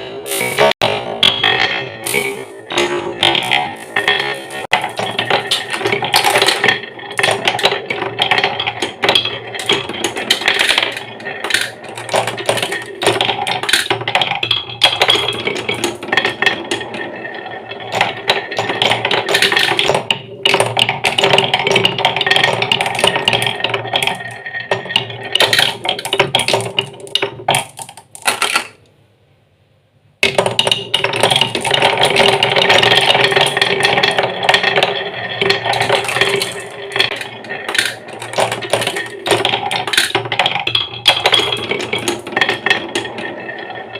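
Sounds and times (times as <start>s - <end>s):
marbles rattling down wooden tracks: 0.3s - 28.8s, 30.2s - 43.9s.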